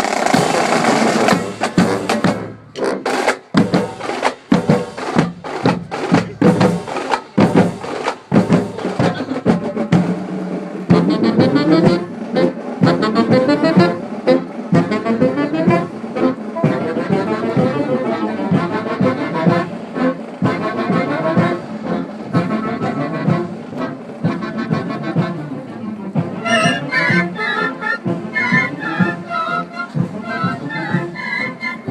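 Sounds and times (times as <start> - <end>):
brass section playing tune: 0.0 - 31.9
marching drums: 0.0 - 31.9.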